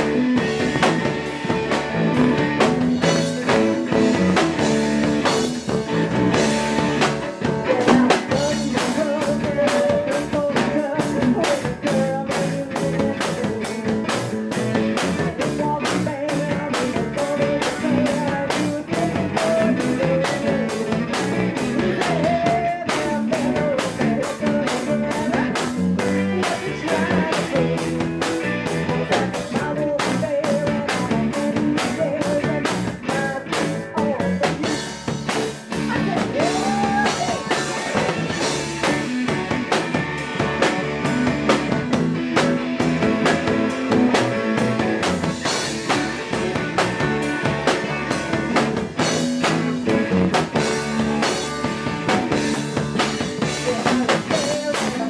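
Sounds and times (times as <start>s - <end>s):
drum kit with cymbals: 0.0s - 55.0s
electric bass: 0.0s - 55.0s
electric guitar: 0.0s - 55.0s.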